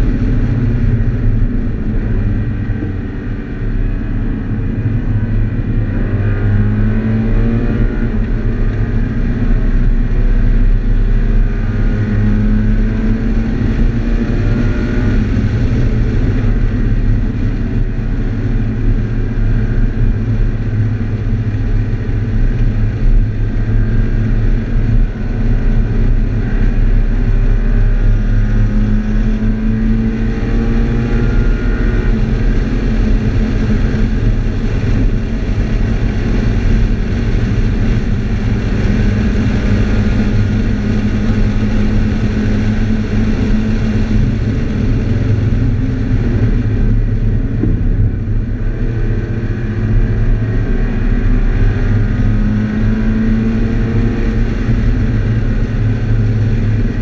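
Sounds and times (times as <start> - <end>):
car engine pulling hard: 0.0 - 57.0
road and wind noise: 0.0 - 57.0.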